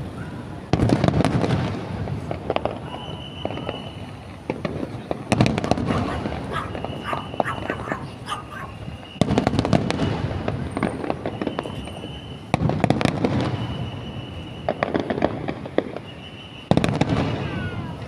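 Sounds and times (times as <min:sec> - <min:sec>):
fireworks bursting: 0:00.0 - 0:18.0
low fireworks rumble: 0:00.0 - 0:18.0.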